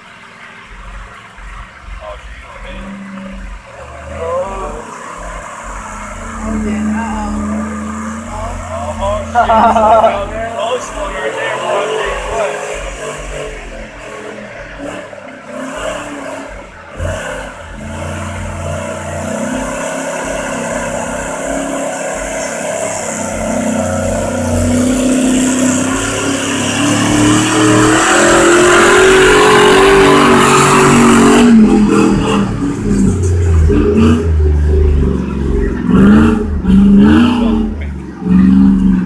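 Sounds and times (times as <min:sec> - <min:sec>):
engine revving: 0:01.4 - 0:39.0.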